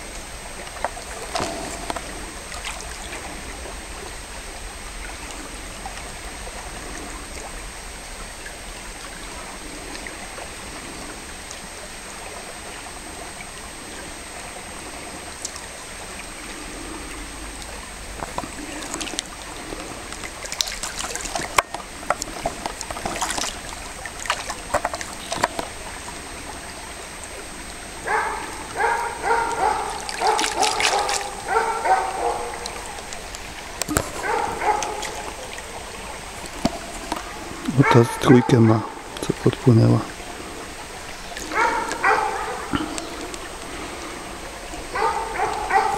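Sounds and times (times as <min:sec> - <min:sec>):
stream trickling over gravel: 0:00.0 - 0:45.9.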